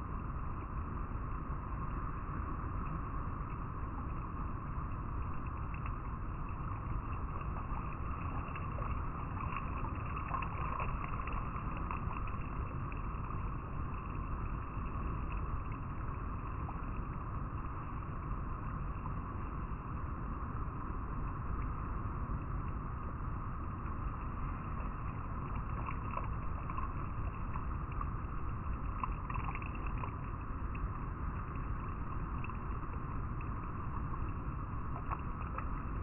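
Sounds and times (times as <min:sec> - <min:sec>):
light water splashes: 0:00.6 - 0:36.0.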